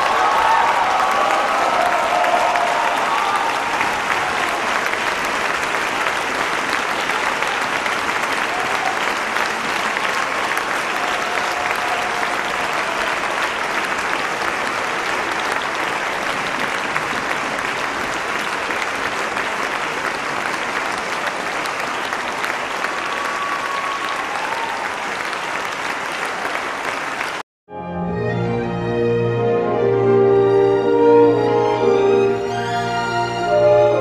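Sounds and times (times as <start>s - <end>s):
audience applauding: 0.0s - 27.4s.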